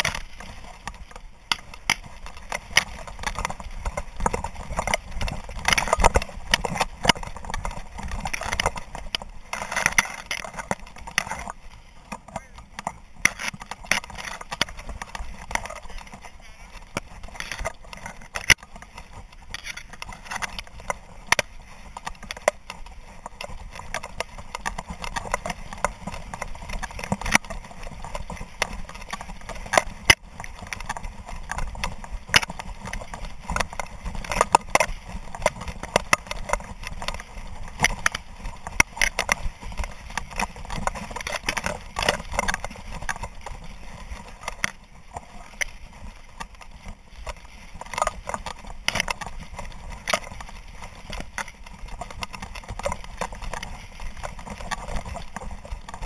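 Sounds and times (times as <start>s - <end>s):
sharp knocks and clicks: 0.0s - 45.7s.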